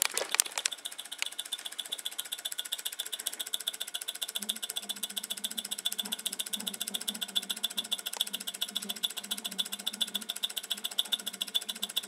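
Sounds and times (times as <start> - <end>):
fan motor ticking buzz: 0.0 - 12.0.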